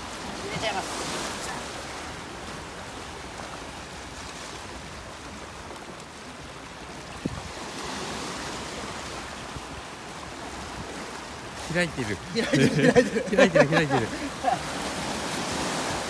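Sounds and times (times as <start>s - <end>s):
sea water washing over rocks: 0.0s - 16.0s.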